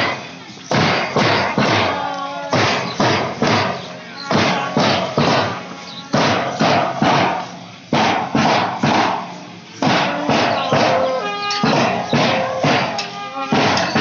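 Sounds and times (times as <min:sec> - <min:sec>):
marching drum beating: 0:00.0 - 0:14.0.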